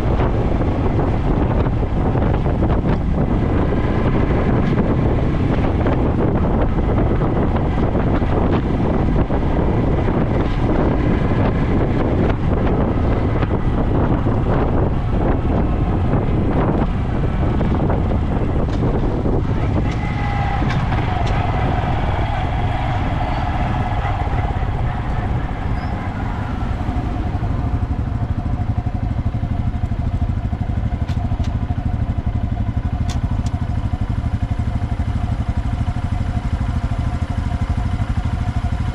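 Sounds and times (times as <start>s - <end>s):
motorcycle engine running: 0.0s - 38.9s
wind rumbling on microphone: 0.0s - 38.9s.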